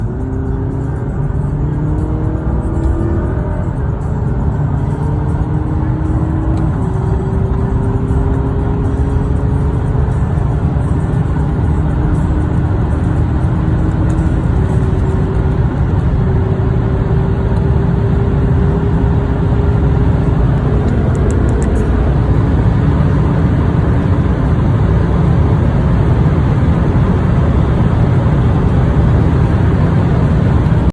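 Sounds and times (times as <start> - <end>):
diesel car engine accelerating: 0.0 - 30.9.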